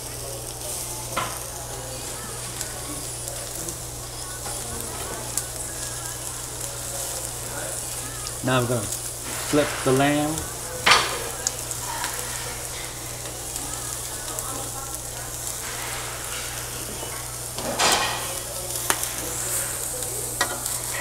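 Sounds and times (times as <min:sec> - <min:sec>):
meat sizzling on grill plate: 0:00.0 - 0:21.0.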